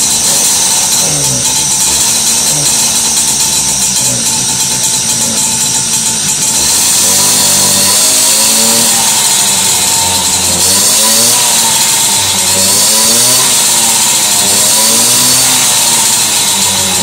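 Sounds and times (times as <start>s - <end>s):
moped engine revving unevenly: 0.0s - 17.0s.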